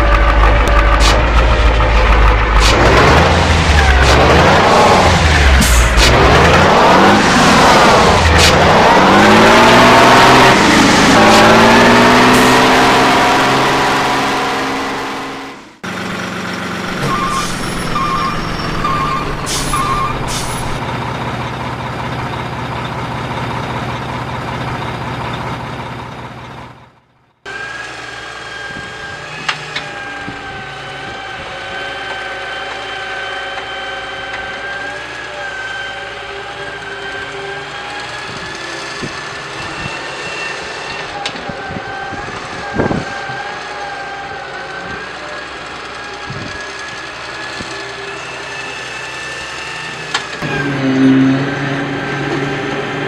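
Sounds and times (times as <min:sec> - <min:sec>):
heavy truck engine slowing: 0:00.0 - 0:53.0.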